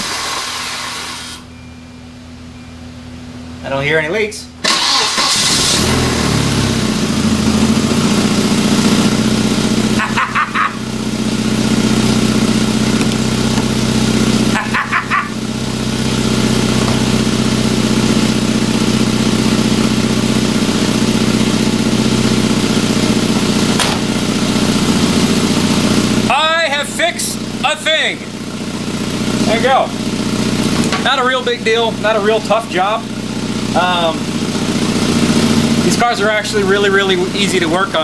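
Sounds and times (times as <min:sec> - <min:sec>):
car engine idling: 0:04.5 - 0:38.0.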